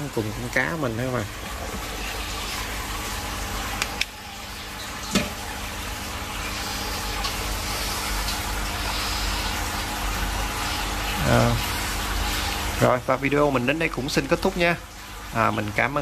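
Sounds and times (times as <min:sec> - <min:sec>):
low pump hum: 0:00.0 - 0:16.0
water splashing and trickling: 0:00.0 - 0:16.0.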